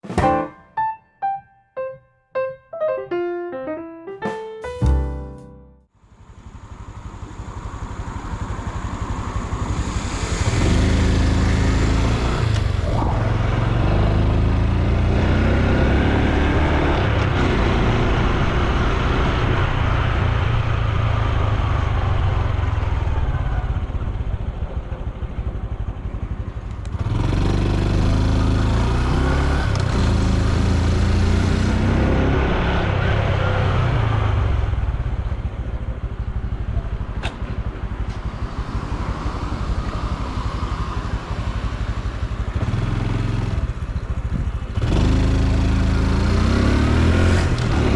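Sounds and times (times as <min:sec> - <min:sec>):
motorcycle engine and exhaust: 0:06.0 - 0:47.9.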